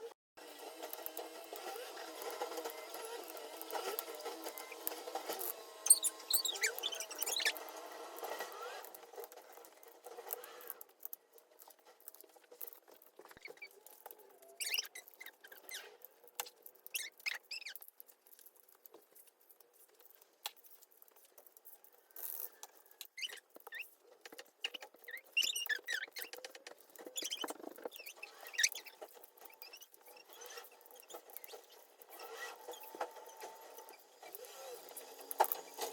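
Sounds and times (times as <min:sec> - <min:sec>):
squeaky plastic scrapes: 0:00.8 - 0:35.9.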